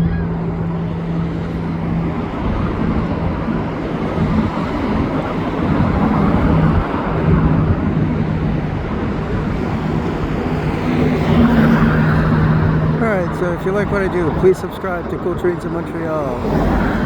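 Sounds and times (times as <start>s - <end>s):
motorway traffic hum: 0.0s - 17.0s.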